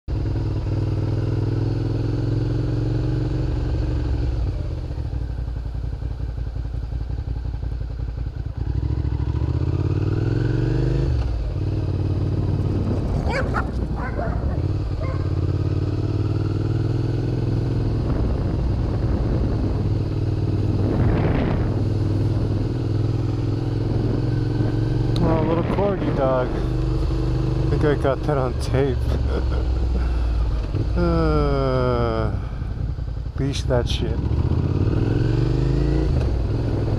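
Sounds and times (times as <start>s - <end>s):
motorcycle engine accelerating: 0.1s - 36.9s.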